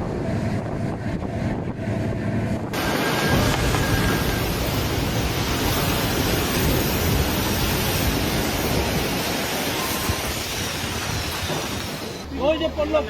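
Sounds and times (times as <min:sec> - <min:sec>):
wind rushing: 0:00.0 - 0:12.3
water noise: 0:00.0 - 0:13.0.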